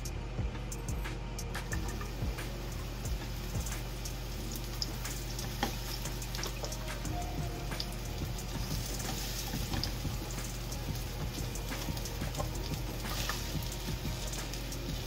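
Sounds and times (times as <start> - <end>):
mushrooms sizzling in oil: 1.8 - 15.0.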